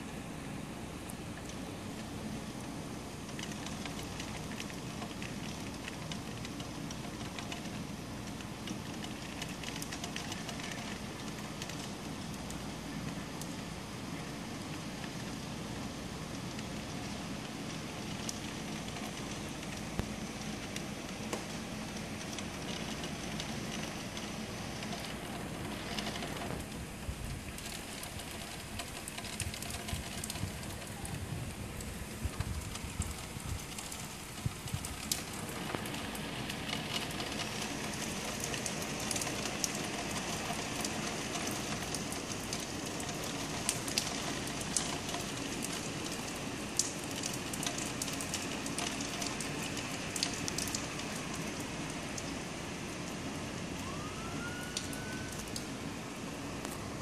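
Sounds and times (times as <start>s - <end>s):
heavy rain on roofs: 0.0s - 57.0s
rain drop ticks: 1.0s - 55.8s, 56.5s - 57.0s.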